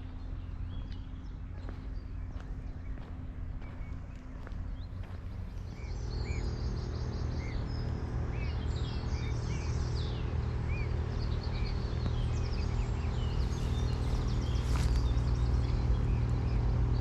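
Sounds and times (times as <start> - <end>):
loud steady low rumble: 0.0 - 17.0
small birds chirping: 0.0 - 17.0.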